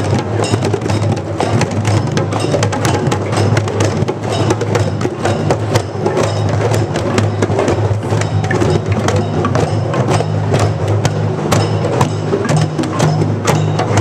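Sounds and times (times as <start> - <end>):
children playing hand drums: 0.0 - 14.0.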